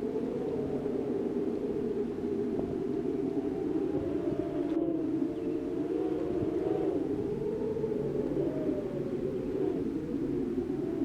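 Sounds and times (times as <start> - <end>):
howling wind: 0.0 - 11.0.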